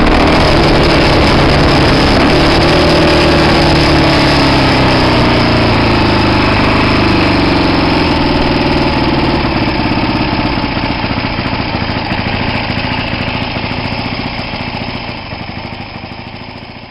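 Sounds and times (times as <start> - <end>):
motorcycle engine revs dropping: 0.0 - 15.2.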